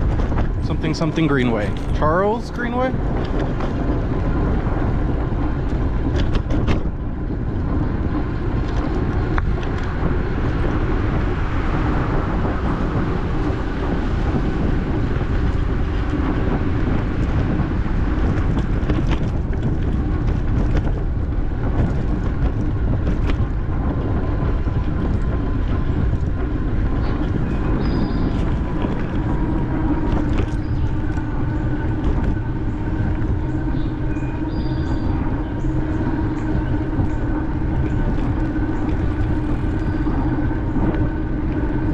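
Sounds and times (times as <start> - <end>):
bicycle rolling rumble: 0.0 - 41.9
wind buffeting microphone: 0.0 - 41.9.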